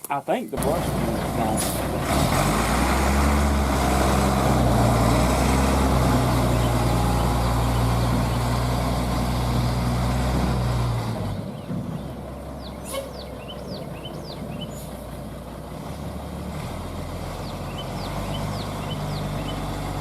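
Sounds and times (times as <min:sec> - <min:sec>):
large engine humming: 0:00.6 - 0:20.0.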